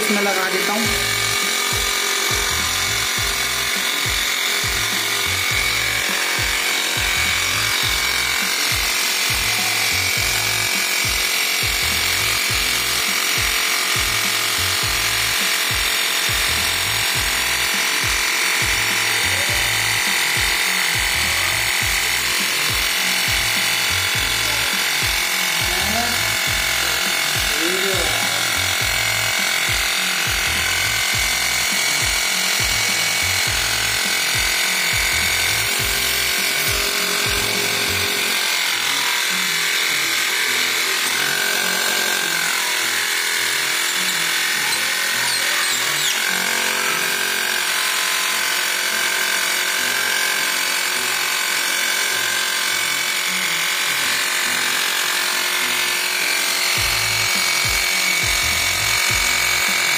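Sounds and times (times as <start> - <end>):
air compressor motor buzzing: 0.0 - 59.9.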